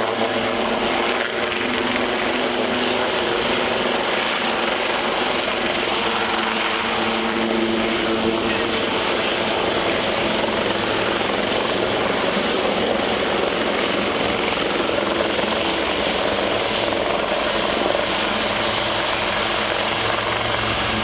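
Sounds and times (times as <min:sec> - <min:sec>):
helicopter rotor and turbine noise: 0:00.0 - 0:21.0.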